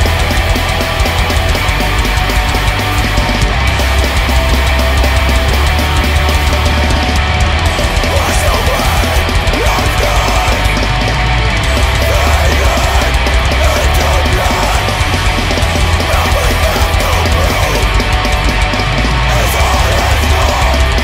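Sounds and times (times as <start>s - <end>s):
metal music: 0.0s - 21.0s.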